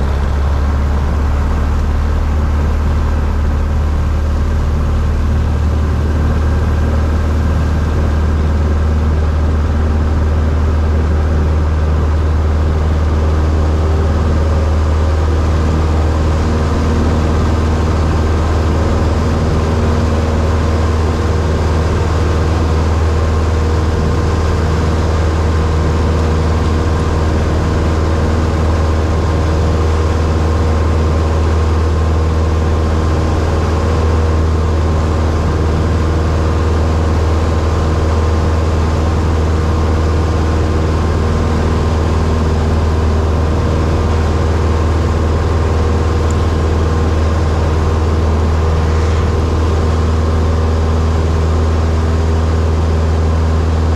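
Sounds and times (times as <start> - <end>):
propeller airplane engine drone: 0.0 - 53.9.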